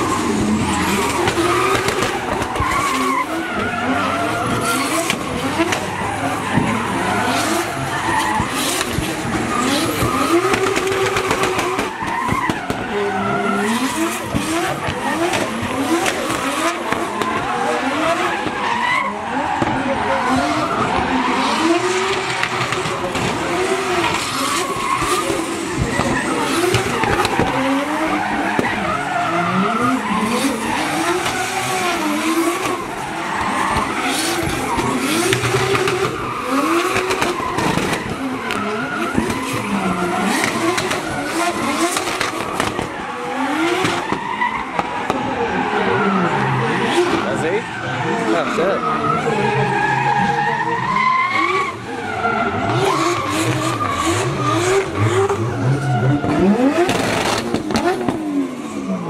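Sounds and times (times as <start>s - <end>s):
car engines revving: 0.0s - 59.0s
tyres skidding and squealing: 0.0s - 59.0s.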